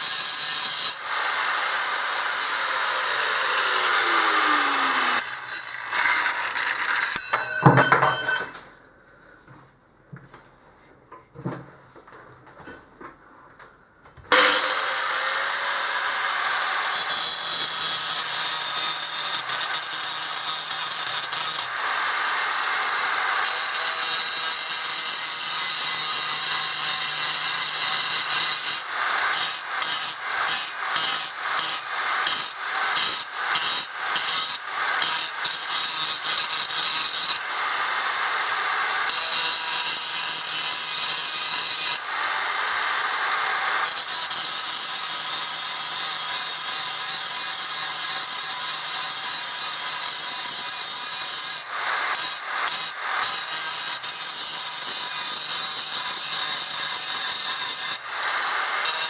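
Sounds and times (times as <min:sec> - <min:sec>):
angle grinder grinding stone: 0:00.0 - 0:08.6, 0:14.3 - 0:59.0.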